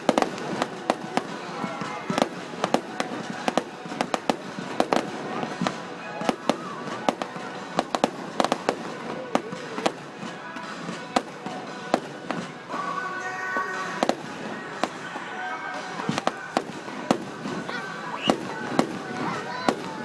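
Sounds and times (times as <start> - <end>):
fireworks bangs and pops: 0.0 - 20.0
music playing: 0.0 - 20.0.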